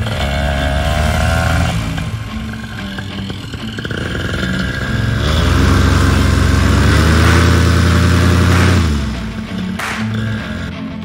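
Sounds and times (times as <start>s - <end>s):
paramotor engine revving: 0.0s - 10.7s.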